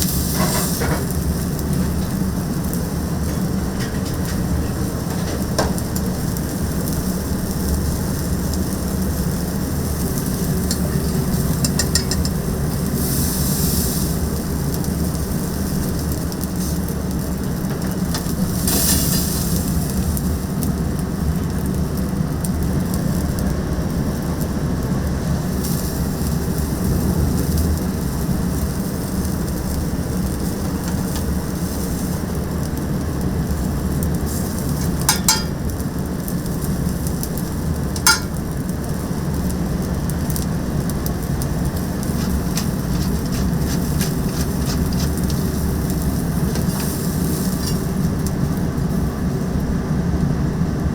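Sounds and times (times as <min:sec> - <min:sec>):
food sizzling: 0:00.0 - 0:49.8
low kitchen hum: 0:00.0 - 0:50.9.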